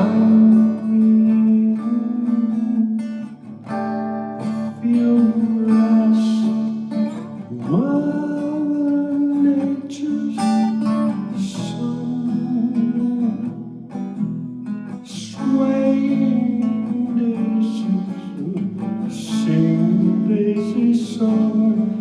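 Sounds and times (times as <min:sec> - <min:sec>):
person singing wordless melody: 0:00.0 - 0:03.4, 0:04.4 - 0:13.7, 0:15.0 - 0:22.0
acoustic guitar strumming: 0:00.0 - 0:22.0.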